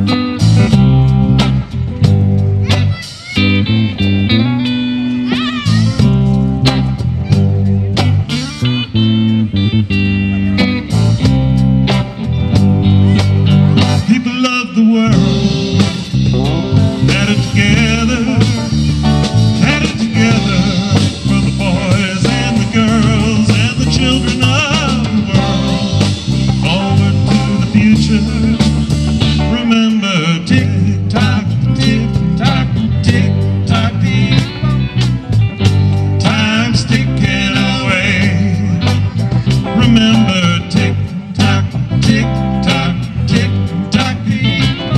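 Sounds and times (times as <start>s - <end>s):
bass guitar: 0.0s - 44.9s
drum kit: 0.0s - 44.9s
electric guitars: 0.0s - 44.9s.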